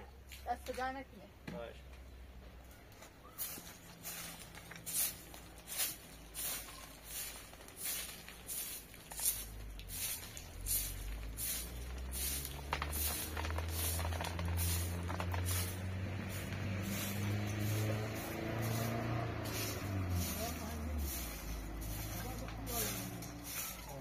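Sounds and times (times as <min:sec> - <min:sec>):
broom sweeping: 0:03.3 - 0:24.0.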